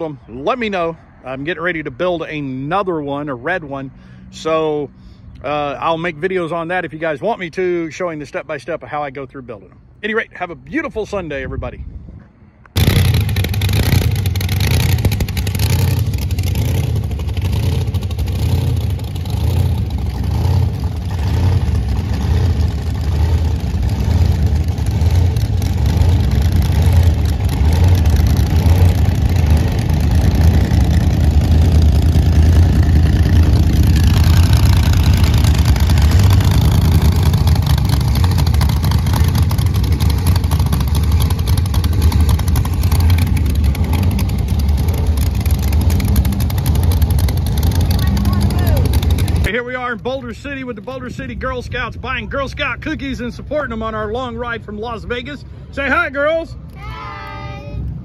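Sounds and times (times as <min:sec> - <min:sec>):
truck engines rumbling: 0:00.0 - 0:58.0.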